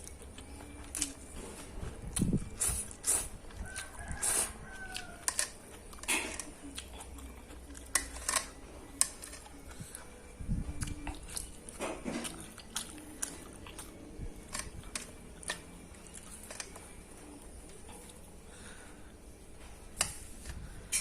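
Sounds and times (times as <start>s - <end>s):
person chewing noodles: 0.0s - 18.8s.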